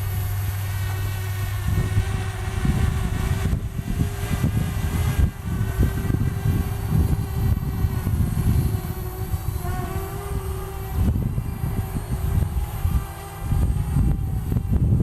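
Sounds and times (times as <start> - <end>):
drone motors whining: 0.0 - 15.0
wind rumbling on microphone: 0.0 - 15.0.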